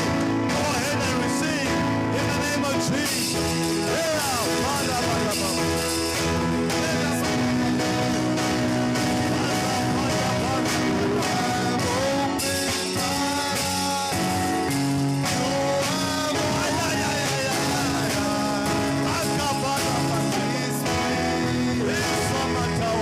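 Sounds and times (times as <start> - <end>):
held instrumental chords: 0.0 - 23.0
voices singing: 0.0 - 23.0.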